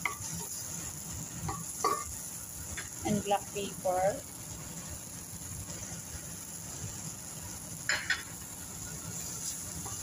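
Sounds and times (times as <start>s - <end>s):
vegetables sizzling in a pan: 0.0s - 10.0s.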